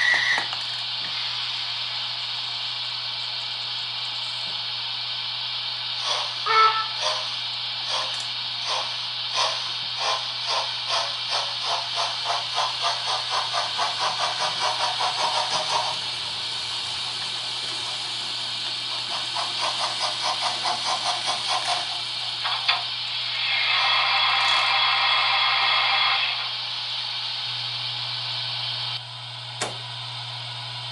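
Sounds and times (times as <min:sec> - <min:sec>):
model steam locomotive chuffing: 0:00.0 - 0:28.9
steady steam hiss: 0:00.0 - 0:29.0.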